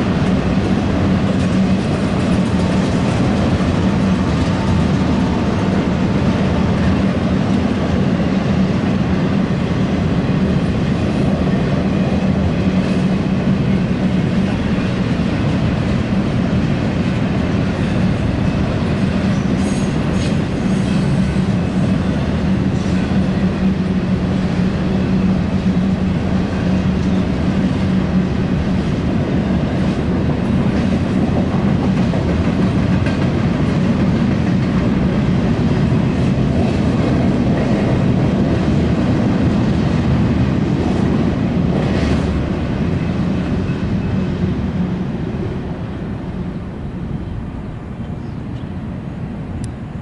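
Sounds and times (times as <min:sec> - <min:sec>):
steel wheels rumbling on rails: 0:00.0 - 0:50.0.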